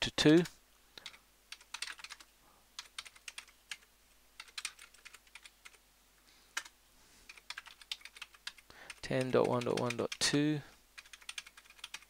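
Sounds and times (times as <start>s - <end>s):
computer keyboard typing: 0.2s - 5.8s, 6.5s - 6.7s, 7.3s - 10.4s, 11.0s - 12.0s.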